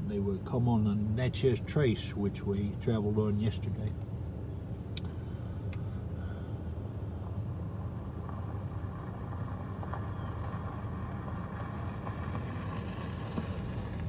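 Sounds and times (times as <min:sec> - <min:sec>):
vehicle engine rumble from inside: 0:00.0 - 0:14.0.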